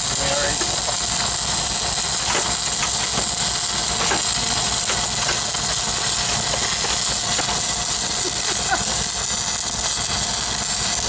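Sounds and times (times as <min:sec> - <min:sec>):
welding arc crackling: 0:00.0 - 0:11.0
welding machine engine running: 0:00.0 - 0:11.0.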